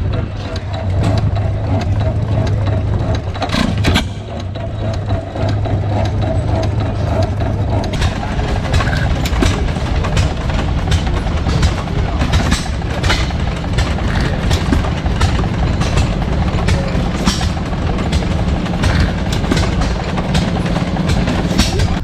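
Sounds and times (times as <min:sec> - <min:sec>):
engine humming steadily: 0:00.0 - 0:22.0
sharp clicks: 0:00.6 - 0:22.0.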